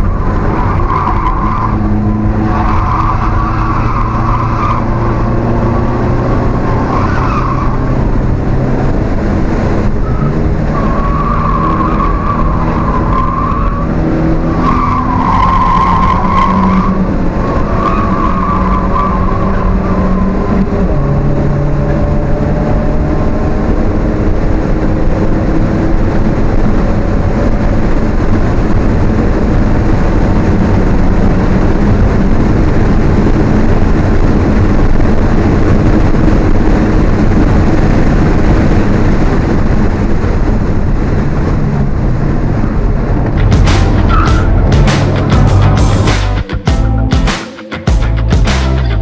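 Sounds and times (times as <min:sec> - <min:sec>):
car engine running hard: 0:00.0 - 0:47.0
wind and road noise: 0:00.0 - 0:49.0.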